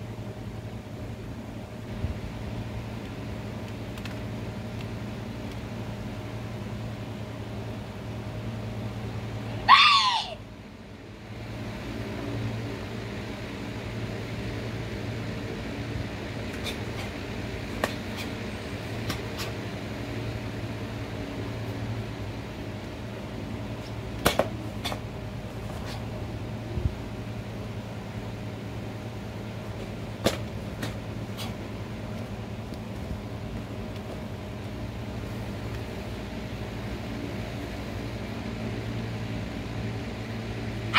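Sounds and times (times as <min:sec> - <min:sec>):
machine hum: 0:00.0 - 0:40.9.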